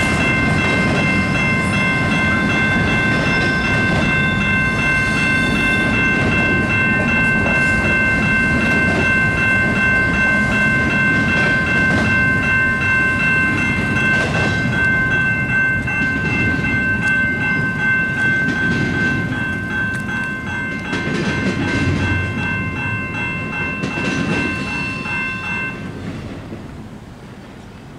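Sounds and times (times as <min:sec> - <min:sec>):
crossing warning bell ringing: 0:00.0 - 0:27.9
train wheels rumbling on rails: 0:00.0 - 0:27.9.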